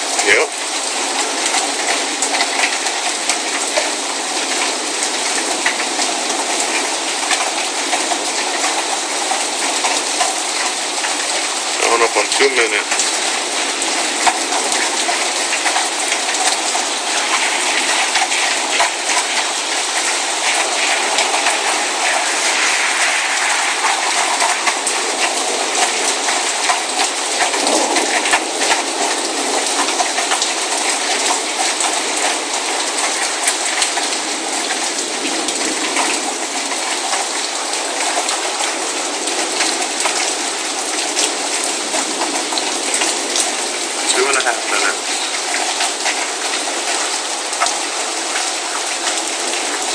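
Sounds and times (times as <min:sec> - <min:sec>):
rain hiss: 0:00.0 - 0:49.9
raindrops ticking on surfaces: 0:00.0 - 0:49.9.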